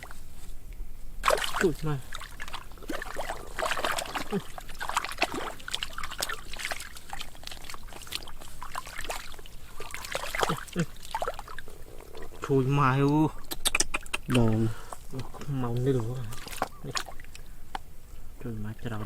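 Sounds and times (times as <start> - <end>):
water splashing and trickling: 1.2 - 17.6.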